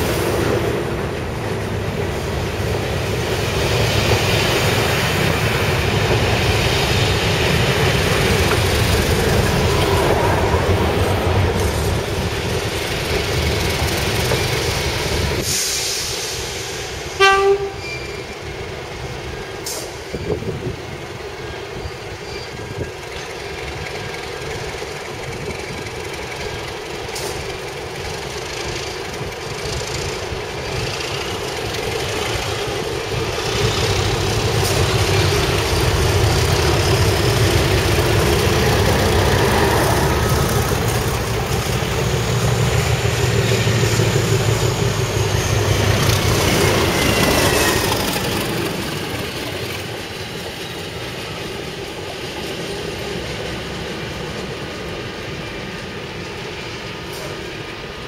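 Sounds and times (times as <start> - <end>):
diesel locomotives passing: 0.0 - 58.0.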